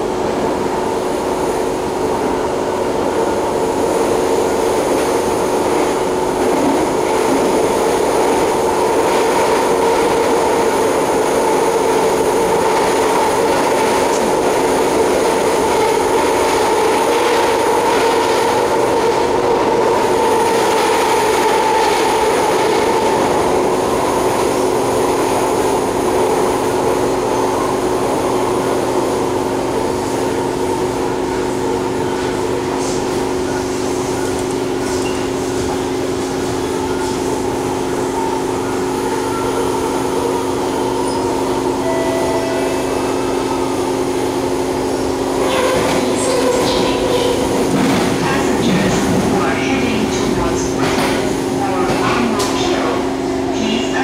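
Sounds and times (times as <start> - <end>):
train wheels rolling on rail: 0.1 - 54.0.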